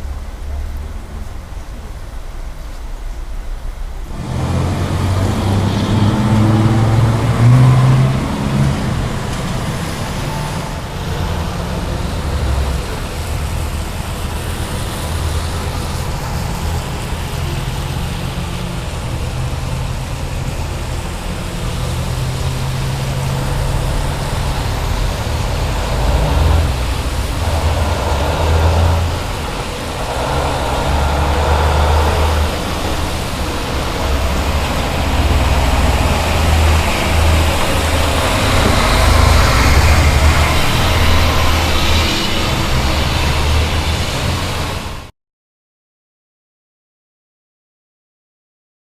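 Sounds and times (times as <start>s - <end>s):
car and truck engines: 0.0s - 45.1s
rain hiss on wet road: 0.0s - 45.1s.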